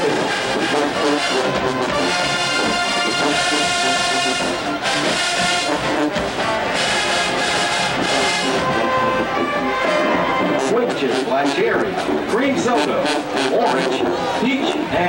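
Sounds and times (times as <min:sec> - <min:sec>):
marching band playing brass tune: 0:00.0 - 0:15.0.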